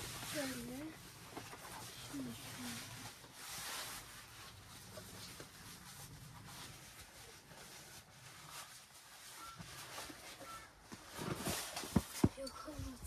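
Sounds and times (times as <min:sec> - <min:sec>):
tent fabric rustling: 0:00.0 - 0:13.0.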